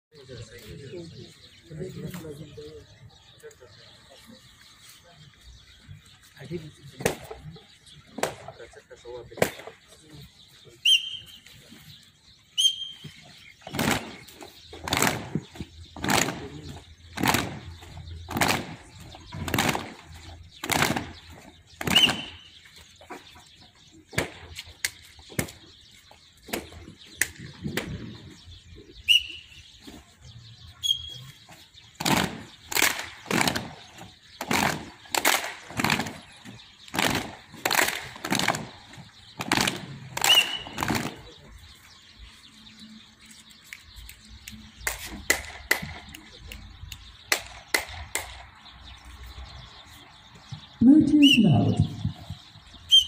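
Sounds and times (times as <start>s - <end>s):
bird chirps: 0.1s - 53.0s.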